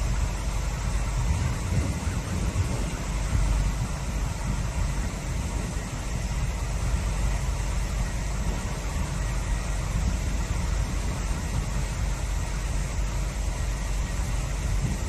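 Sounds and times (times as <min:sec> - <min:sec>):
deep water rumble: 0:00.0 - 0:15.0.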